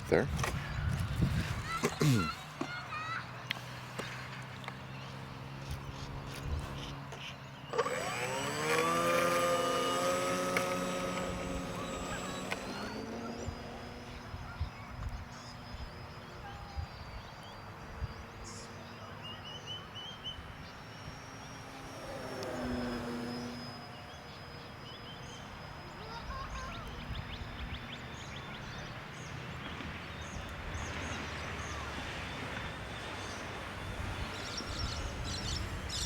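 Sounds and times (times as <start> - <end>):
birds chirping: 0.0 - 36.0
model plane motor whine: 3.5 - 36.0.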